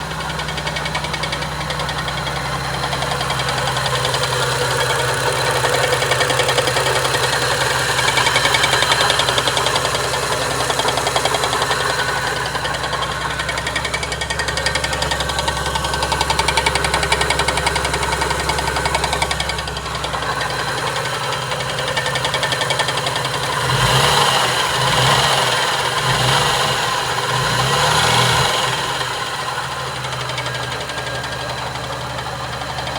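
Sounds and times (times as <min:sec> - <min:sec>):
engine knocking and revving: 0:00.0 - 0:32.9.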